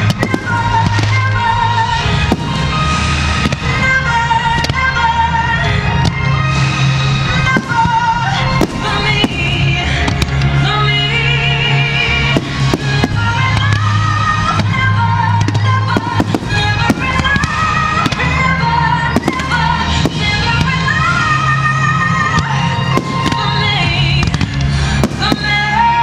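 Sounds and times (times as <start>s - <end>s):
fireworks bursting with sharp bangs: 0.0s - 10.7s, 12.2s - 26.0s.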